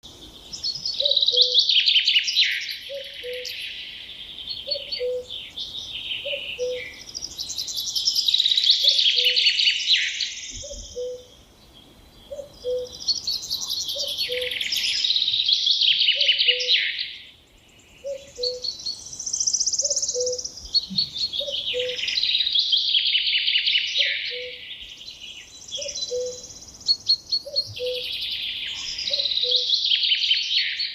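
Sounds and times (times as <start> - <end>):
songbird trilling: 0.4 - 11.5, 12.1 - 30.9.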